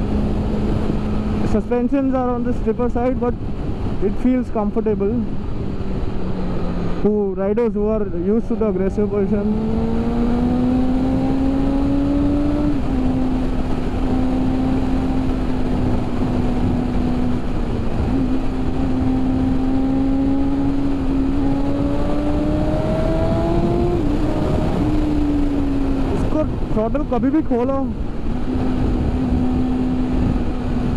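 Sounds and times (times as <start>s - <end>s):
motorcycle engine accelerating: 0.0s - 2.5s, 8.4s - 30.9s
wind rush: 0.0s - 30.9s.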